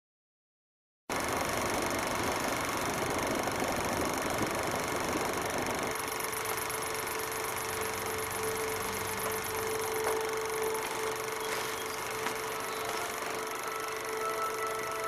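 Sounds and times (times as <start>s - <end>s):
fast high-pitched pulsing: 1.1s - 15.0s
steady hum: 1.1s - 15.0s.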